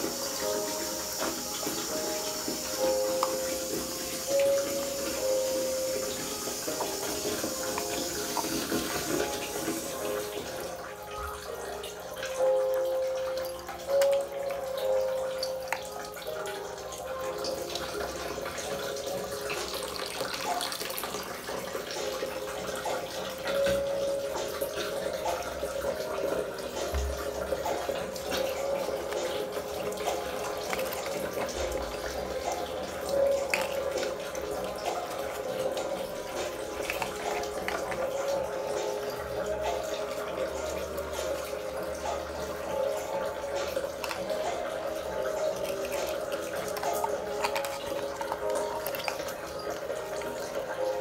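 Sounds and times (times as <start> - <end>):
running splashing water: 0.0 - 51.0
small clicks and drips: 0.0 - 51.0.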